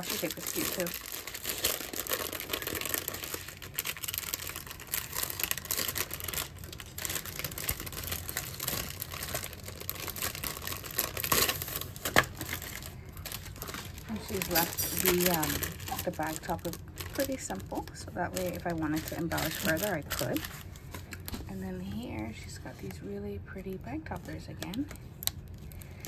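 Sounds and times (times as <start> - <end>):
cellophane bag crinkling: 0.0 - 22.9, 23.7 - 26.0.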